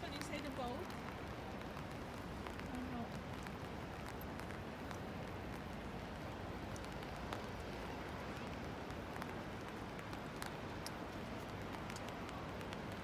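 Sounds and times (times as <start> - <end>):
raindrops ticking: 0.0 - 13.0.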